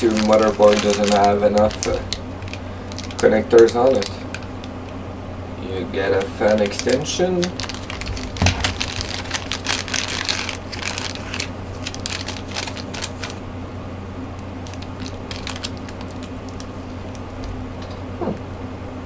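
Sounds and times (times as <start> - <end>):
plastic bags crinkling: 0.0 - 5.0, 5.8 - 13.4, 14.4 - 18.1.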